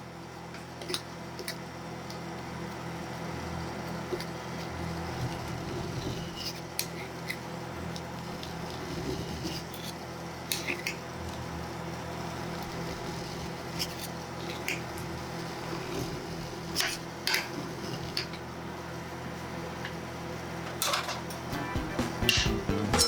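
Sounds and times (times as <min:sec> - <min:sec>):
refrigeration hum: 0:00.0 - 0:23.0.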